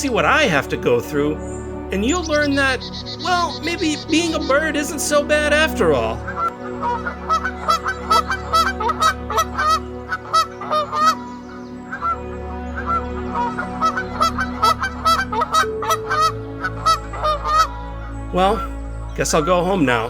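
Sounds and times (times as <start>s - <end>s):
flock of birds calling: 0.0s - 20.0s
low drone: 0.0s - 20.0s.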